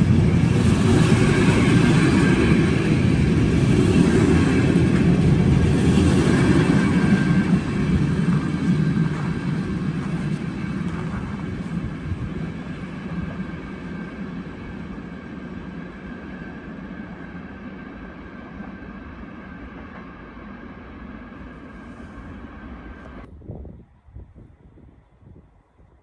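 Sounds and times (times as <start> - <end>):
freight train rumbling past: 0.0 - 25.6.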